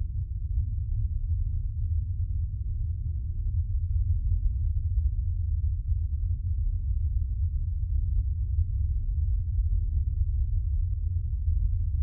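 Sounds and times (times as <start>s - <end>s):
low rumbling drone: 0.0s - 12.0s.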